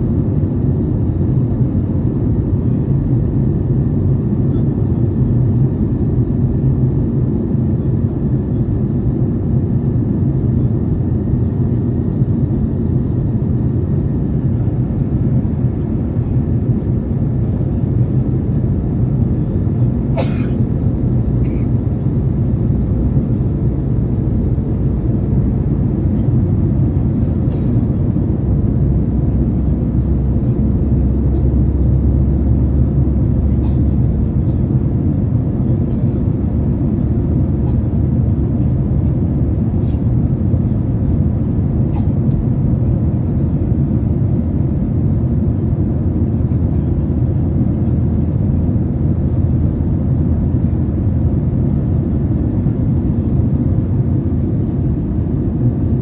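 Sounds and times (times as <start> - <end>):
airliner engine drone: 0.0 - 56.0.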